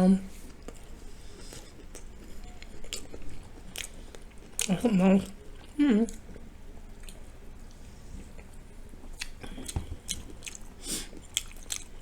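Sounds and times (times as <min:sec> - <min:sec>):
person chewing food: 0:00.4 - 0:12.0.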